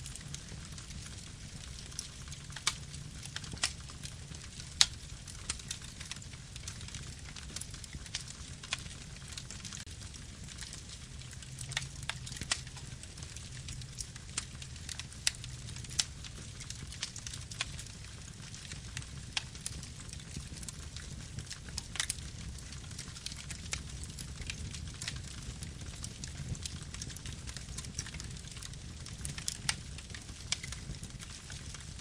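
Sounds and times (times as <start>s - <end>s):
campfire crackling: 0.0s - 32.0s
low rumble of flames: 0.0s - 32.0s.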